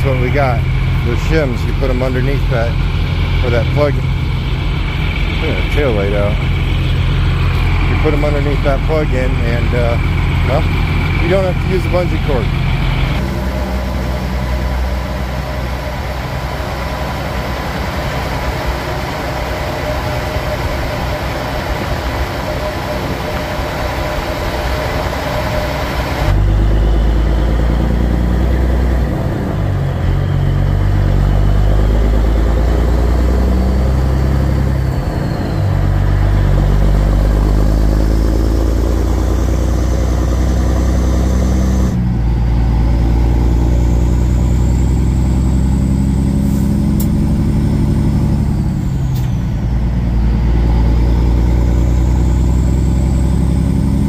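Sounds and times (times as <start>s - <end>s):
diesel truck engine shifting gears: 0.0s - 54.0s.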